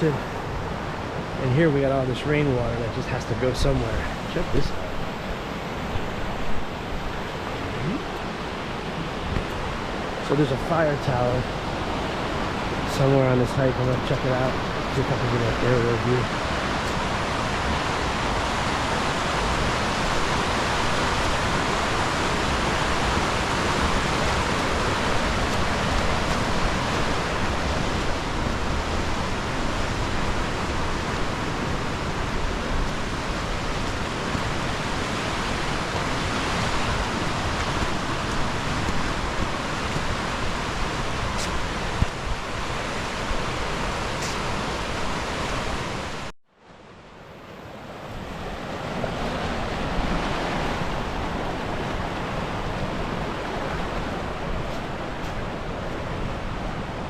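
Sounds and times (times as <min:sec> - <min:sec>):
waterfall rushing: 0:00.0 - 0:46.3.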